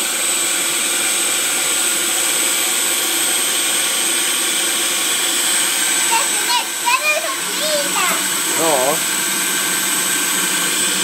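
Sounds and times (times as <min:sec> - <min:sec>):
food processor motor whining: 0:00.0 - 0:11.0.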